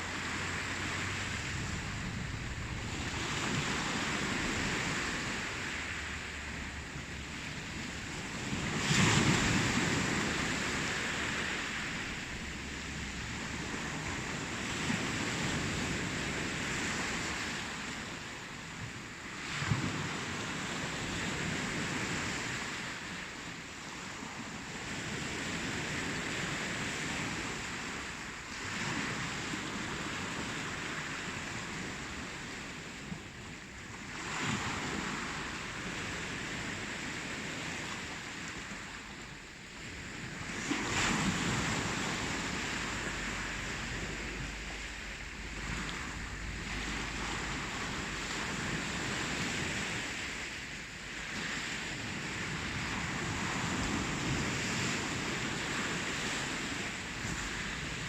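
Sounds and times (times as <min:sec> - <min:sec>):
ocean waves breaking on shore: 0:00.0 - 0:58.0
wind rumble on microphone: 0:00.0 - 0:58.0.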